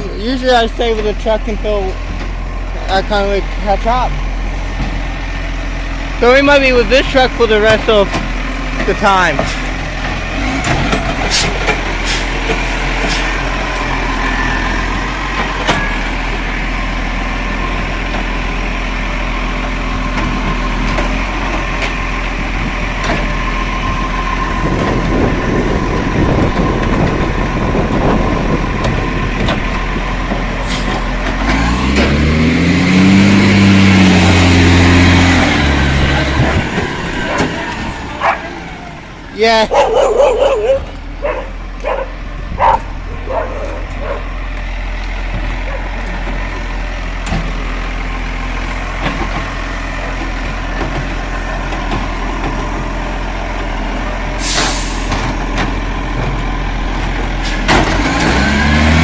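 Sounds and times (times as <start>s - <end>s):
garbage truck engine running: 0.0s - 59.0s.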